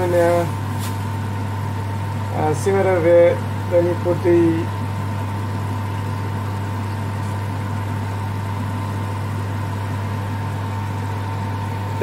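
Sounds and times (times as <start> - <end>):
motor humming and whining: 0.0 - 12.0.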